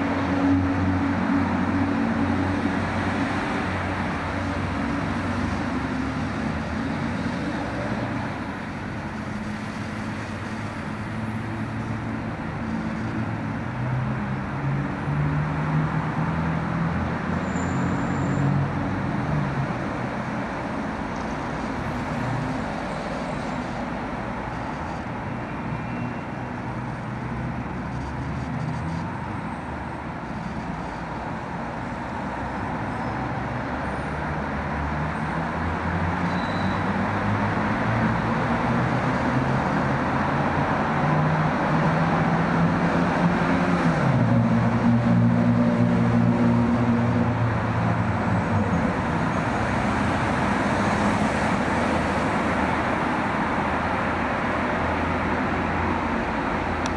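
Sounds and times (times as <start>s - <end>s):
passing vehicles: 0.0s - 56.9s.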